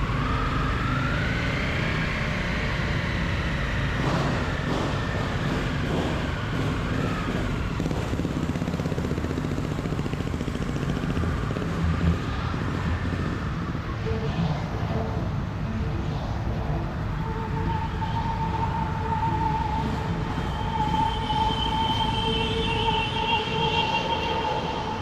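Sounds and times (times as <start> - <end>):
motor vehicle low rumble: 0.0 - 25.0.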